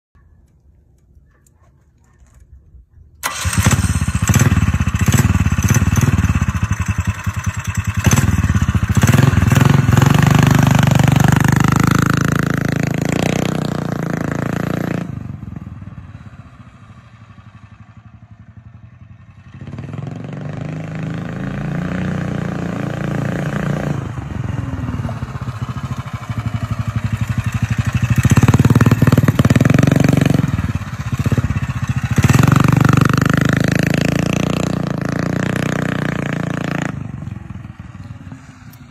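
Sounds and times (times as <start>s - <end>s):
small gas engine revving: 3.2s - 38.9s.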